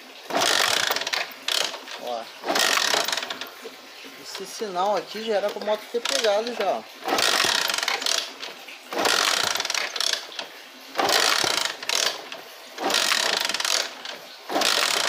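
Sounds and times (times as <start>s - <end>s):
scooter kick-starter ratcheting: 0.3s - 3.7s, 4.3s - 15.0s.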